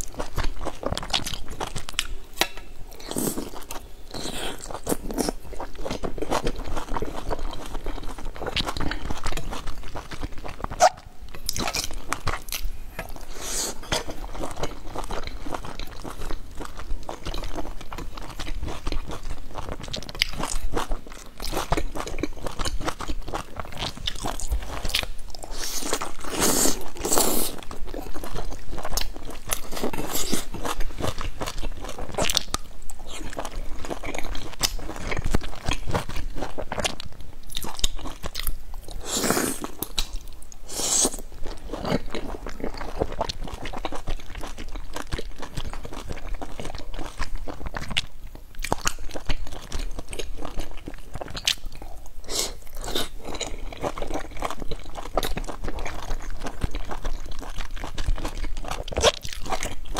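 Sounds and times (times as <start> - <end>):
person chewing dumplings: 0.0 - 59.9.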